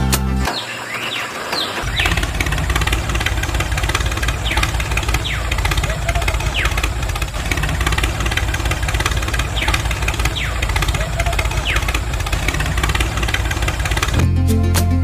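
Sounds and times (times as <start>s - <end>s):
tractor engine running: 0.0s - 14.4s
high falling chirps: 0.4s - 14.2s.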